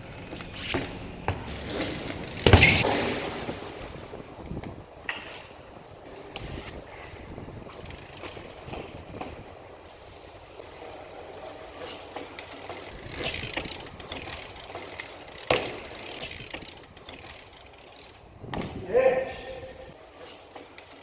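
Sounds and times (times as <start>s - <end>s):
bike tyres rolling on pavement: 0.0s - 21.0s.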